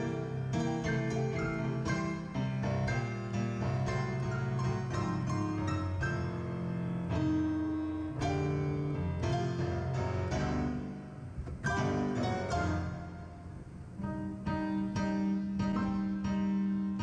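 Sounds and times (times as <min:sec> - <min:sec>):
keyboard piano chords and melody: 0:00.0 - 0:17.0.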